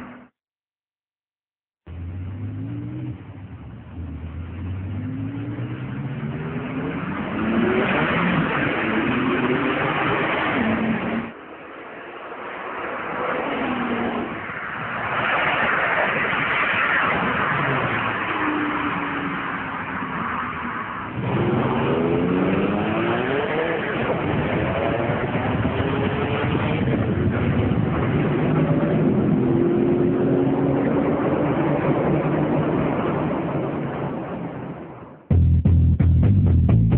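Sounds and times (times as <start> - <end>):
car engines accelerating hard: 1.9 - 34.1.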